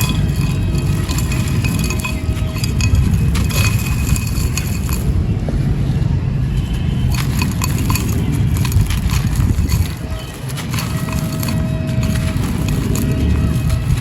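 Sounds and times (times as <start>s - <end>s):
clay and sand crushed by hand: 0.0s - 5.2s, 7.0s - 14.0s.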